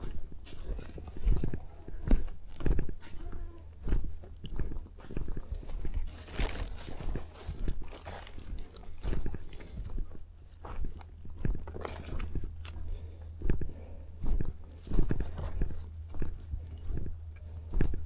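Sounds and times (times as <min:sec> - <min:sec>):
footsteps on forest ground: 0:00.0 - 0:18.0.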